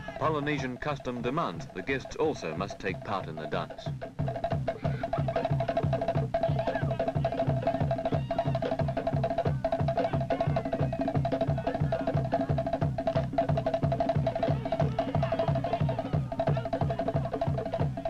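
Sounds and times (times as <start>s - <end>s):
low drum beat: 0.0s - 18.0s
wooden slit drum beating: 0.0s - 18.0s.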